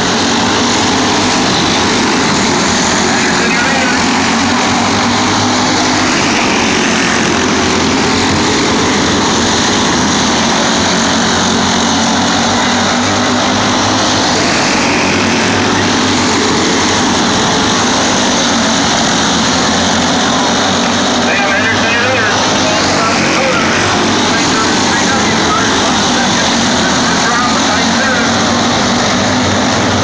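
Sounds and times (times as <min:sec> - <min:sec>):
kart engines racing: 0:00.0 - 0:30.0.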